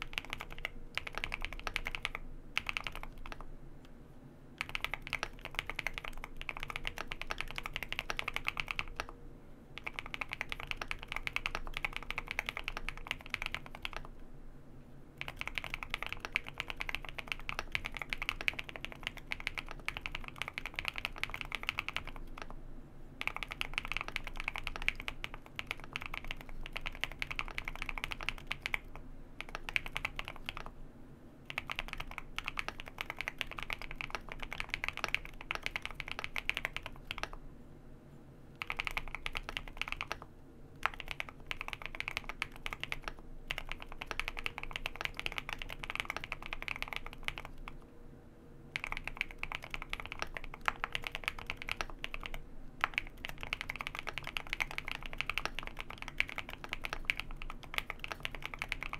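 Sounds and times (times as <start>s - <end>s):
mechanical keyboard keystroke clacks: 0.0s - 3.4s, 4.6s - 9.1s, 9.8s - 14.1s, 15.2s - 22.5s, 23.2s - 30.7s, 31.5s - 37.4s, 40.8s - 47.7s, 48.8s - 58.9s.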